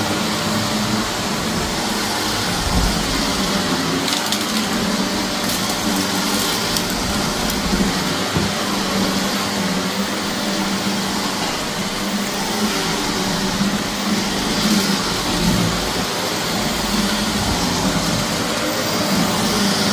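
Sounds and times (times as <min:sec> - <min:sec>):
vacuum cleaner motor hum: 0:00.0 - 0:19.9.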